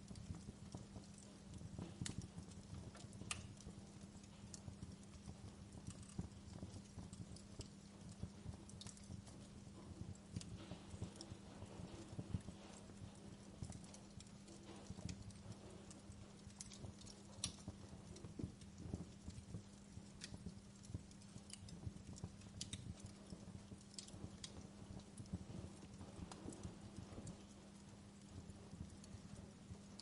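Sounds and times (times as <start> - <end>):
fireplace crackling: 0.0 - 30.0
low steady hum: 0.0 - 30.0.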